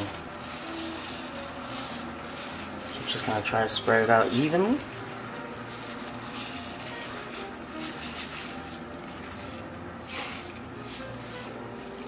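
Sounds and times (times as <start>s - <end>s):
rice pouring into boiling stock: 0.0s - 12.0s.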